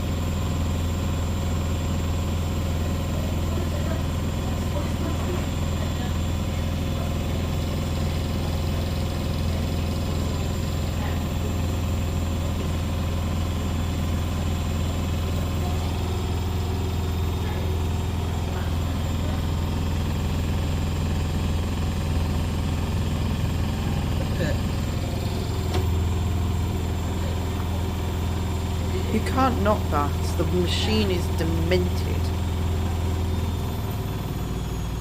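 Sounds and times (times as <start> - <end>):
washing machine drum spinning: 0.0 - 35.0.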